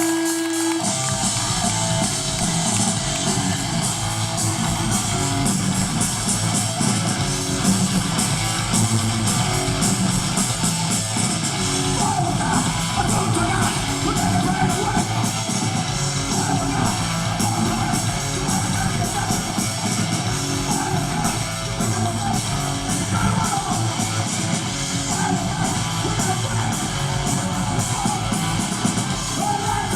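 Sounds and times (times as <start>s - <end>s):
distorted electric guitars: 0.0s - 29.9s
live punk band playing: 0.0s - 29.9s.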